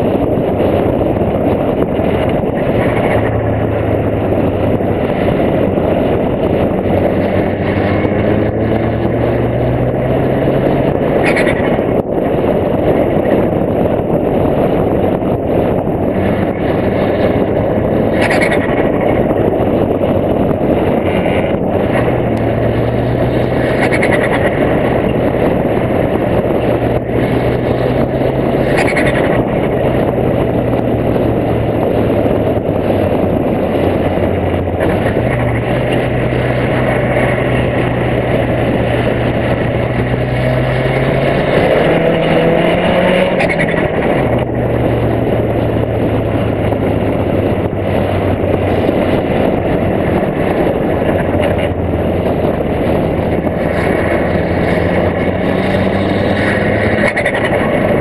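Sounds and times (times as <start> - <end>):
car engine running: 0.0 - 58.0
wind rush over microphone: 0.0 - 58.0.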